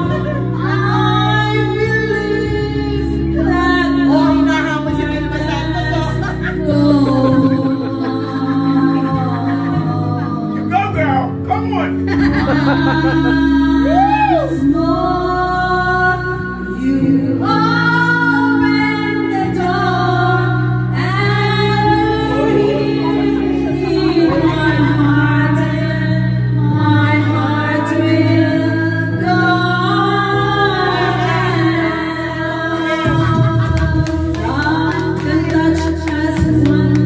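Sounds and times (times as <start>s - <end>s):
woman singing into microphone: 0.0s - 10.7s, 12.1s - 37.0s
backing track music: 0.0s - 37.0s.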